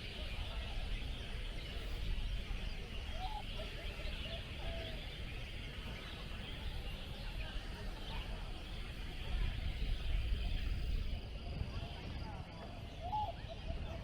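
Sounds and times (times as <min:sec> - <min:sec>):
songbirds chirping and singing: 0:00.0 - 0:14.0.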